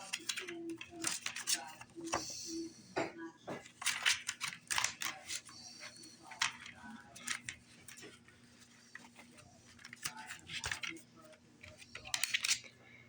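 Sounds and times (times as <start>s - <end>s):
light paper rustles: 0.0s - 2.5s, 3.6s - 12.8s.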